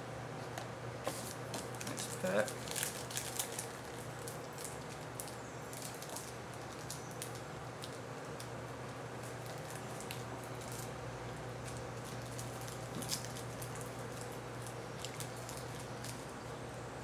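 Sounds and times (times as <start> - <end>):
steady low hum: 0.0 - 17.0
card pack crinkling and rustling: 1.1 - 8.5, 9.2 - 11.0, 11.6 - 16.3.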